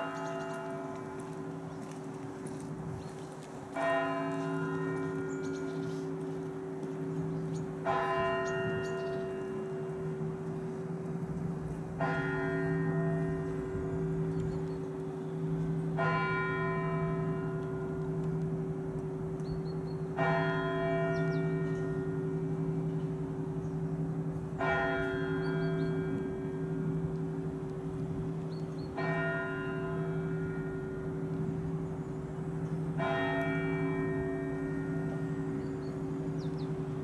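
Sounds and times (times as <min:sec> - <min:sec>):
large church bell ringing: 0:00.0 - 0:02.6, 0:03.7 - 0:37.0.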